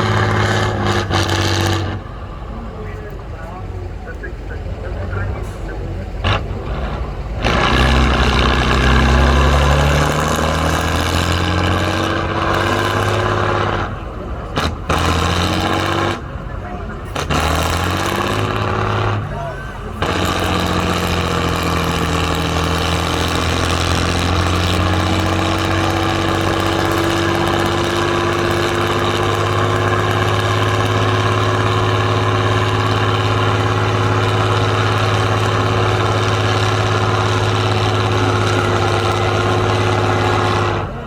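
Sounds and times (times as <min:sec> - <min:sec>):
heavy truck engine running: 0:00.0 - 0:41.0.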